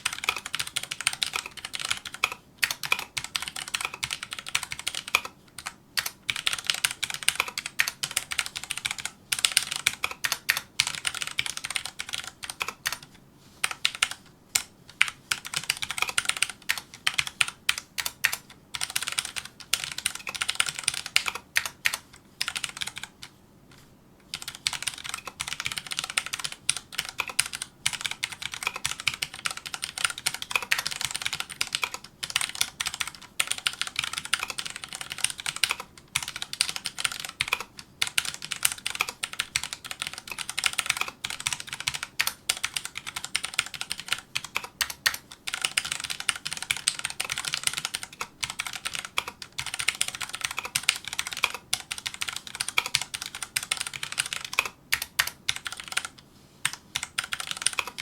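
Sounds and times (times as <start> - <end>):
mechanical keyboard typing: 0.0 - 23.3, 24.3 - 58.0.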